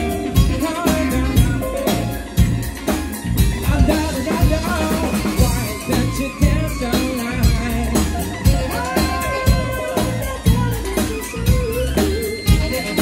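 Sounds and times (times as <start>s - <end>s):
lead singer singing: 0.0s - 2.4s, 3.5s - 13.0s
bass guitar: 0.0s - 13.0s
drum-kit beat: 0.0s - 13.0s
electric guitar: 0.0s - 13.0s
saxophone: 0.0s - 13.0s.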